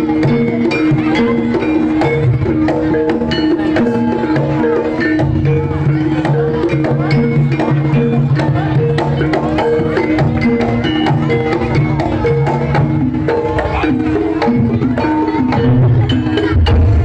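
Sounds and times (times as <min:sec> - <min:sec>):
hand-drum strokes: 0:00.0 - 0:17.0
metallophones playing melody: 0:00.0 - 0:17.0.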